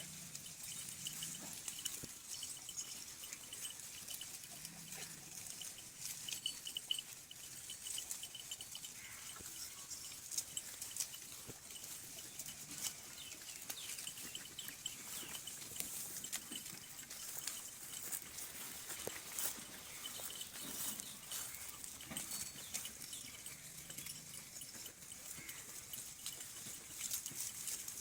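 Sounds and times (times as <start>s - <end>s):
goat herd clicks and rustles: 0.0s - 28.0s
faint dotted chirping: 0.5s - 26.8s.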